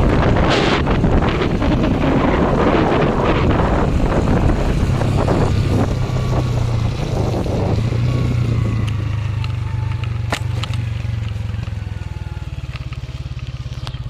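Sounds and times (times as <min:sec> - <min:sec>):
wind noise: 0:00.0 - 0:11.3
vehicle engine humming: 0:00.0 - 0:14.0.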